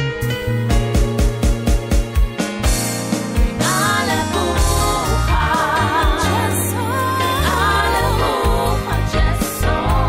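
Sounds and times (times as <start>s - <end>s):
steady bass notes: 0.0s - 10.0s.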